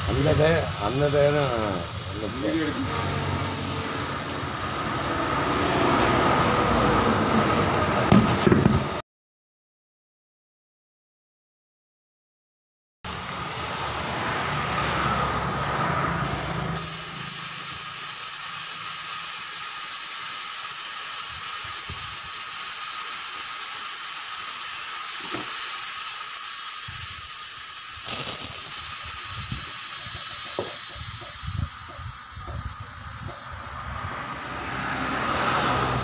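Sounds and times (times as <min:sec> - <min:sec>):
compressed air hissing: 0:00.0 - 0:07.2, 0:13.6 - 0:36.0.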